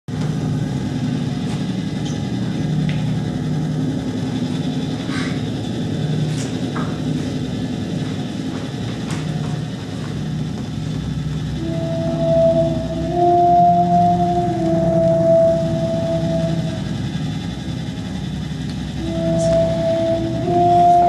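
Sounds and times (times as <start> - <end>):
faint hum tones: 0.1 - 21.0
low ambient drone: 0.1 - 21.0.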